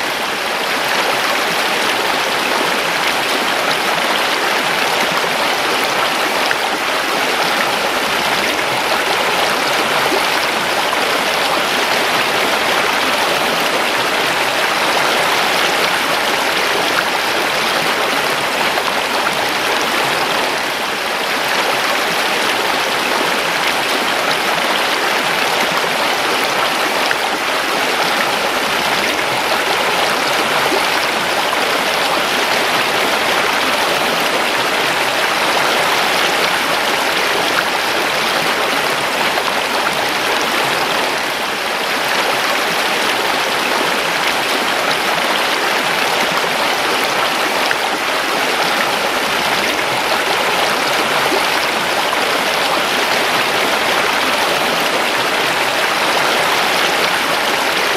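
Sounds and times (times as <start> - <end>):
creek water flowing: 0.0 - 57.9.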